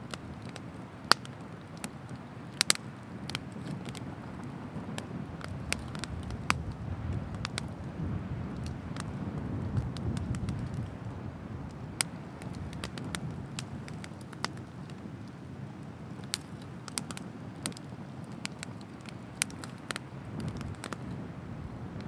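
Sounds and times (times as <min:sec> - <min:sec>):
bonfire crackling: 0:00.0 - 0:22.0
fire low rush: 0:01.8 - 0:22.0.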